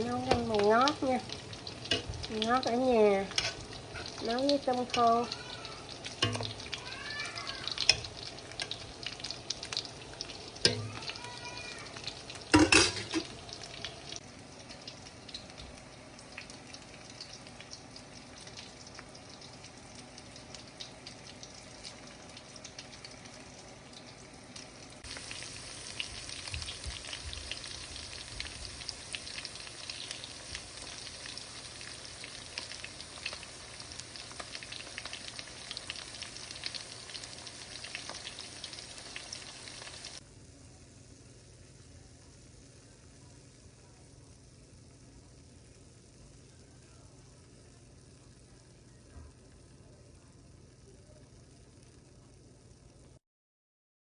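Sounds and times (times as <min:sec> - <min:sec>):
food frying in hot oil: 0:00.0 - 0:53.2.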